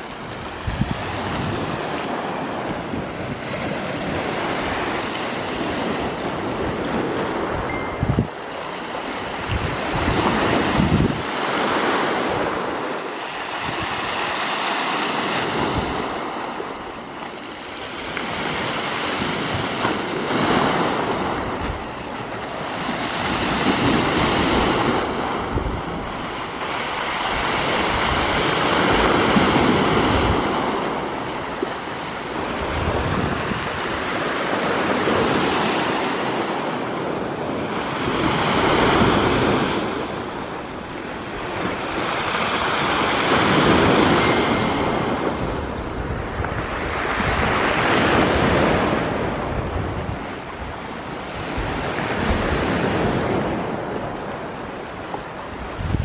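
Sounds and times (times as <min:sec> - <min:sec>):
sea waves breaking on rocks: 0:00.0 - 0:56.0.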